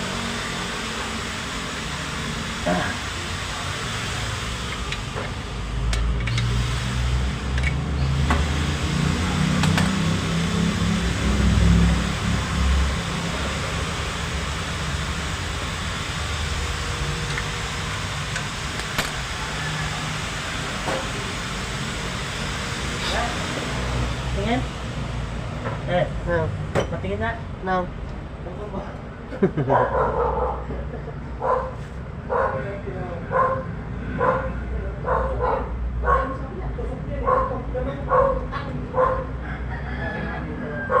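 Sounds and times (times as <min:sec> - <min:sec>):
motor vehicle rumble: 0:00.0 - 0:41.0.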